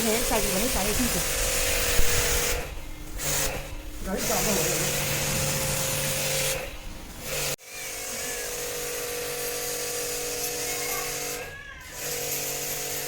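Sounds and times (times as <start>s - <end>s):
small electric motor whirring: 0.0s - 13.0s.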